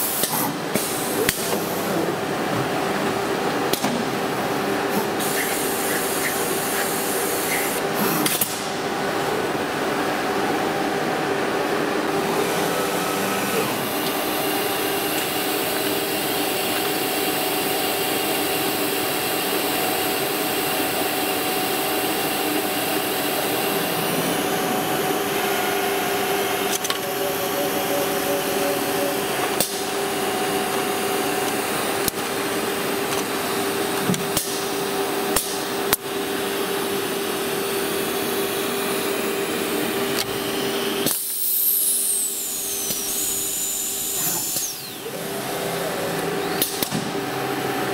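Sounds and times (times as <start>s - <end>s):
machine hum with held tone: 1.0s - 47.9s.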